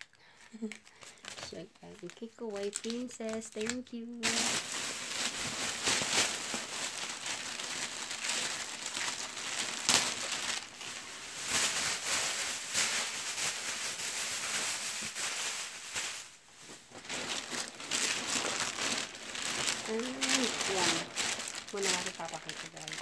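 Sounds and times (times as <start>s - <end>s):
gift wrapping crumpling: 0.0s - 23.0s.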